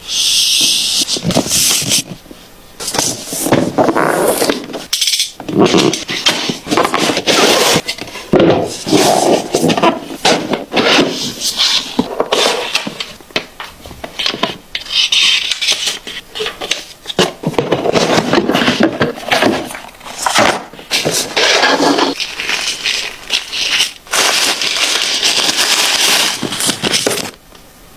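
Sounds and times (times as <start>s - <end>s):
cardboard and plastic rustling: 1.1s - 27.4s.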